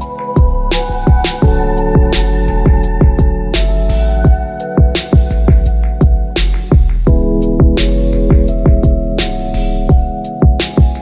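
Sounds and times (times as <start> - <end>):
sustained synth chords: 0.0 - 10.2
electronic beat of deep drum hits: 0.0 - 11.0.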